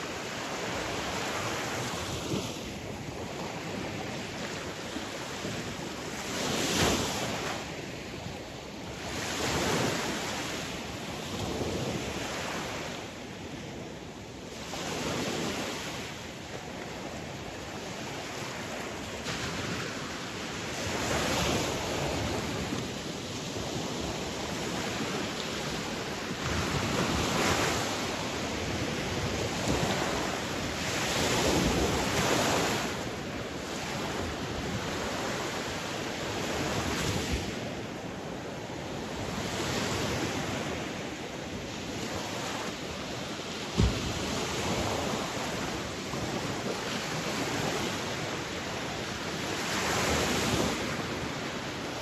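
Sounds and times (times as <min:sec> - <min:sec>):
sea waves breaking: 0:00.0 - 0:52.0.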